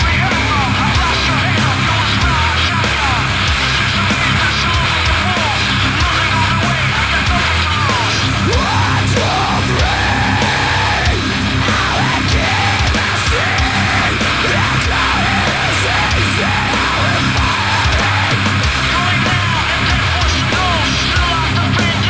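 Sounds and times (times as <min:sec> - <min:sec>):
heavy rock music: 0:00.0 - 0:22.0
shouted vocals: 0:00.0 - 0:22.0.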